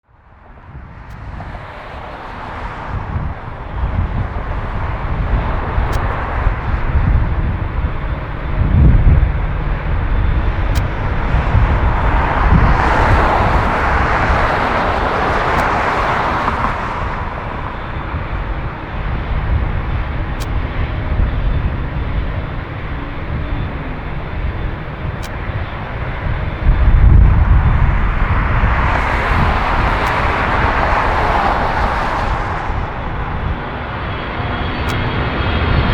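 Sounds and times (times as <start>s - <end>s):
jet engine roar: 0.1s - 35.9s.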